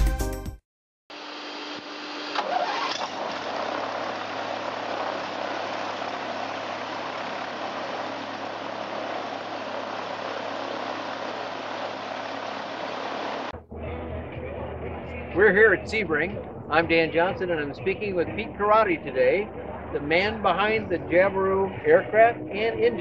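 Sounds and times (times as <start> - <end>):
aircraft engine running: 2.2 - 23.0.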